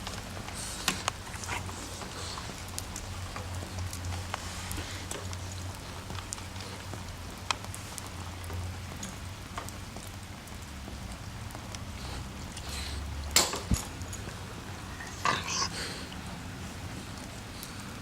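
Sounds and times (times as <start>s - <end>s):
rain hissing: 0.0s - 18.0s
raindrops ticking: 0.0s - 18.0s.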